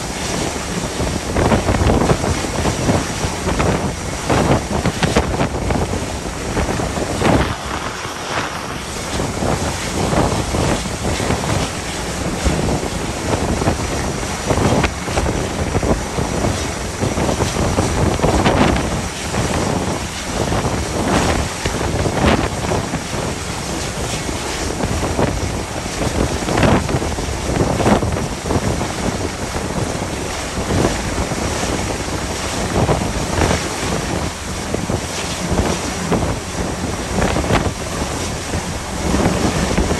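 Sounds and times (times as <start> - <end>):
rush of wind and sea: 0.0 - 39.9
wind buffeting microphone: 0.0 - 39.9.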